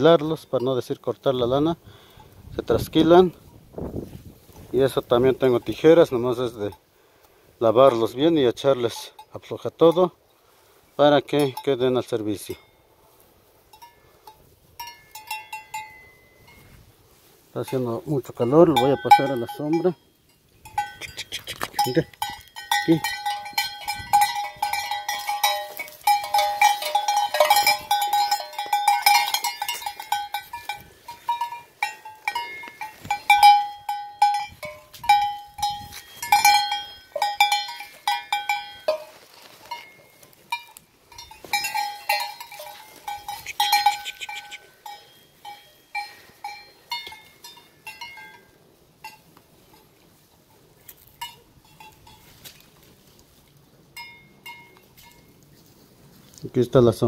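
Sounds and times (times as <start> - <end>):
sheep bell clanking: 0.0 - 3.6, 5.1 - 6.8, 7.9 - 10.2, 11.2 - 12.9, 13.6 - 16.9, 17.6 - 52.6, 53.9 - 55.4.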